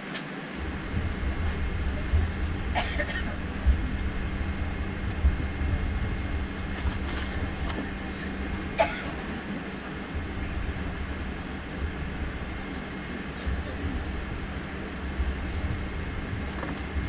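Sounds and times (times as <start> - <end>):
airplane cabin rumble and hum: 0.0 - 17.0.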